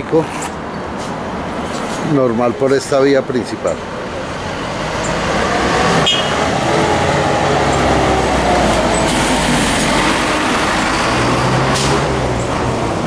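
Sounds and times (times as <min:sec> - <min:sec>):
bus engine passing: 0:00.0 - 0:13.0
road noise: 0:00.0 - 0:13.0.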